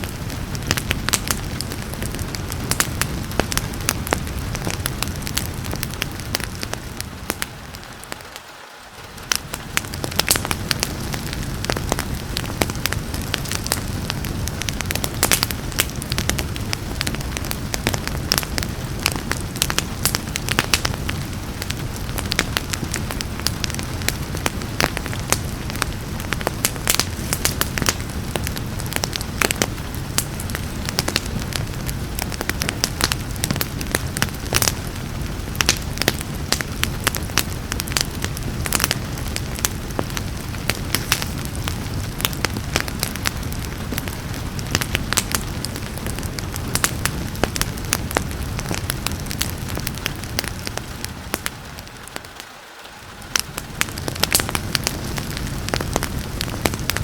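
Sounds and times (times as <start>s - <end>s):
rain: 0.0s - 57.0s
wood fire crackling and popping: 0.0s - 57.0s.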